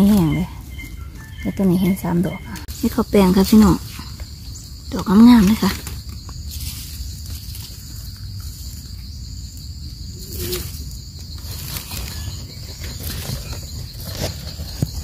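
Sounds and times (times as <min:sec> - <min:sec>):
insects droning: 0:00.0 - 0:15.0
rustling of leaf litter: 0:00.0 - 0:15.0.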